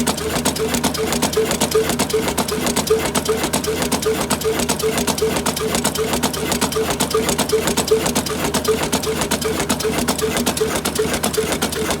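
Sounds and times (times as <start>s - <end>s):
fast mechanical clatter: 0.0s - 12.0s
old diesel engine running: 0.0s - 12.0s.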